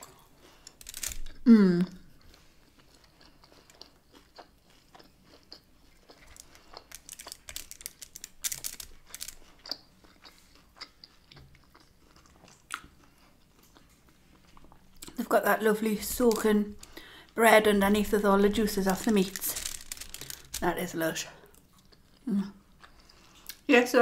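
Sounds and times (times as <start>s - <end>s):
person chewing: 0.0s - 15.2s, 16.0s - 23.7s.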